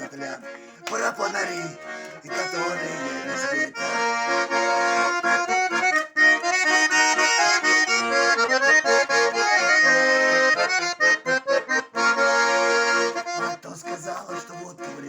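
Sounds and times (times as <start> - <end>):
button accordion melody: 0.0 - 15.0.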